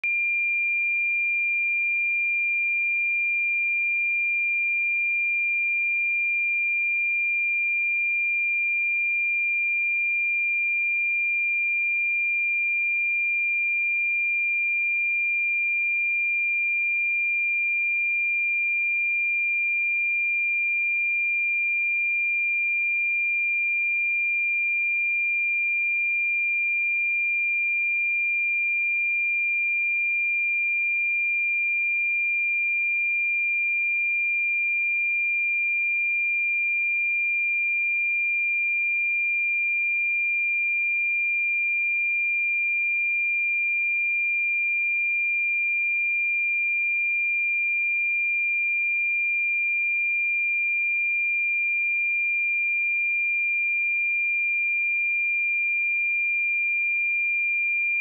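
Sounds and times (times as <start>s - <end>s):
sine-wave test tone: 0.0s - 58.0s.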